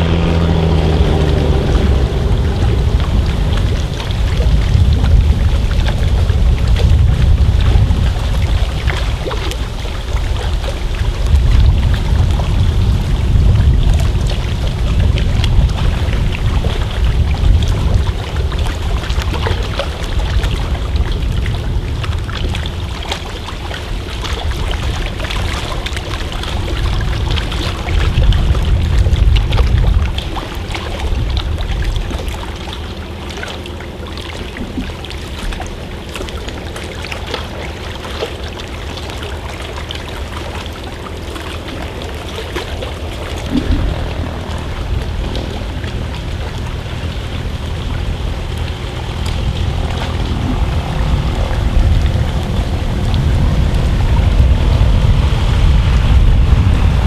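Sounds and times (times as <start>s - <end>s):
floatplane engine and propeller: 0.0s - 57.0s.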